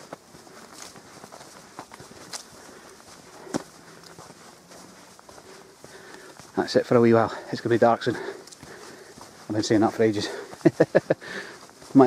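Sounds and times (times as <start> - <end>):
footsteps on grassy track: 0.0 - 12.0.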